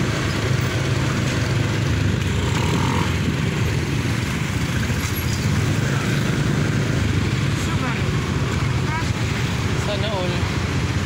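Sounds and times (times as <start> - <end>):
road noise rush: 0.0 - 11.0.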